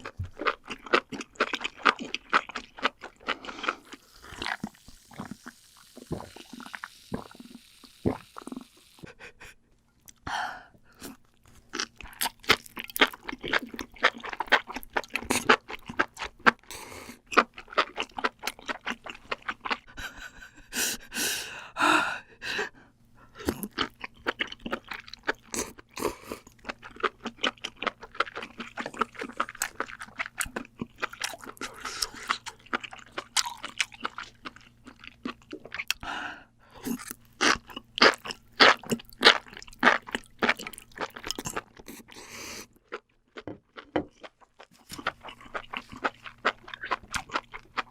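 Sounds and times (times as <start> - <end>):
crunchy chewing: 0.0 - 7.6, 11.0 - 19.8, 23.4 - 36.0, 36.8 - 47.9.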